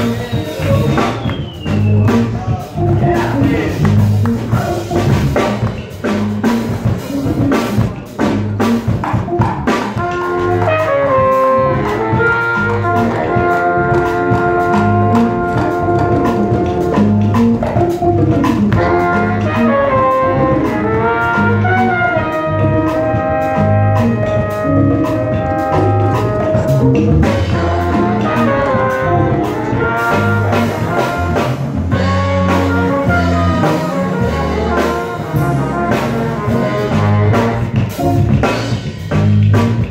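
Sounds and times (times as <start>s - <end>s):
djembes: 0.0s - 39.9s
drum kit: 0.0s - 39.9s
electric bass: 0.0s - 39.9s
saxophone and trumpets: 0.0s - 39.9s.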